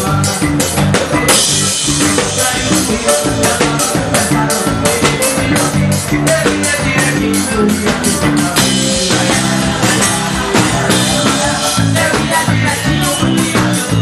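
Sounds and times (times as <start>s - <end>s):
folk band music with steady beat: 0.0s - 14.0s.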